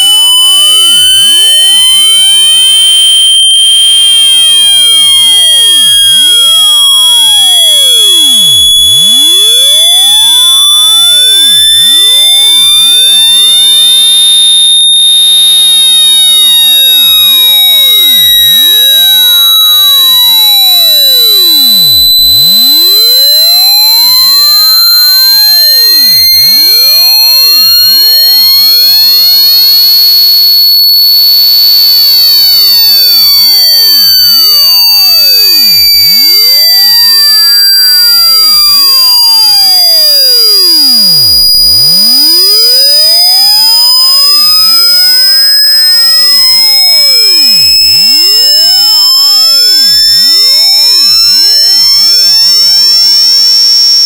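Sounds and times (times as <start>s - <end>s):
electronic tones sweeping up and down: 0.0s - 9.6s, 11.5s - 54.0s
piercing electronic high tone rising: 0.0s - 54.0s.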